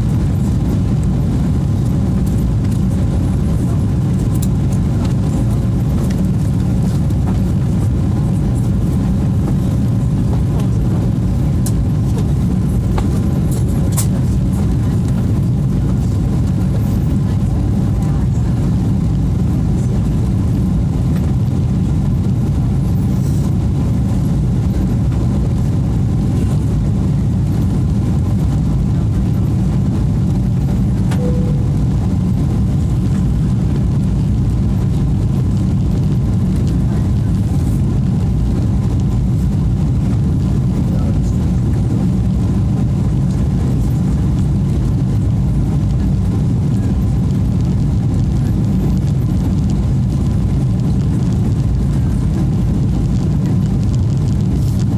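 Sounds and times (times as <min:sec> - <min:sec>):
airplane cabin engine rumble: 0:00.0 - 0:54.9.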